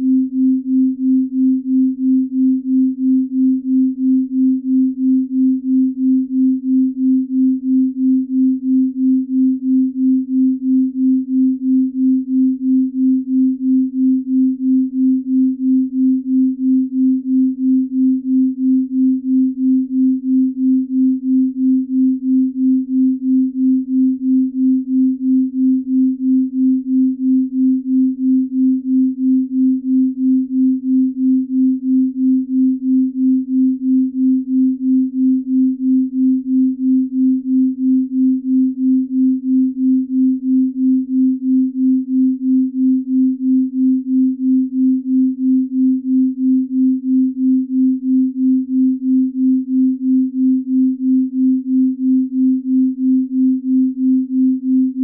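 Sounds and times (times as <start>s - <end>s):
low throbbing sine tone: 0.0s - 55.0s.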